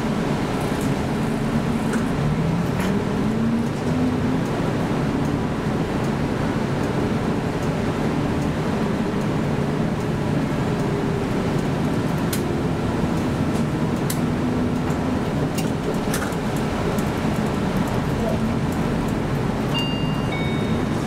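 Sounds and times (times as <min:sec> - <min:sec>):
bus engine and road drone: 0:00.0 - 0:21.0.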